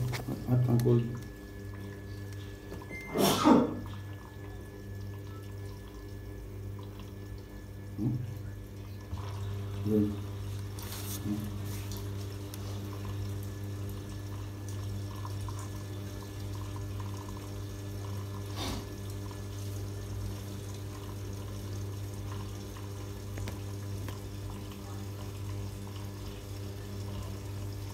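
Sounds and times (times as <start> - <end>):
low hum of washing machine: 0.0 - 27.9
water running into washing machine: 0.0 - 27.9.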